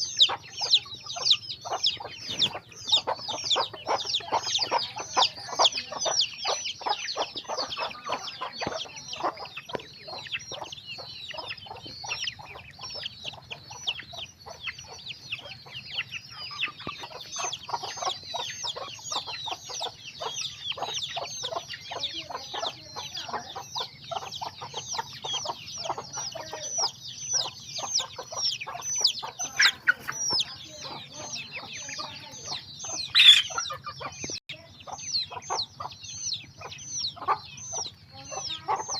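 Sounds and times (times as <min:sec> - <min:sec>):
chicks peeping: 0:00.0 - 0:38.9
hens clucking: 0:00.0 - 0:38.9.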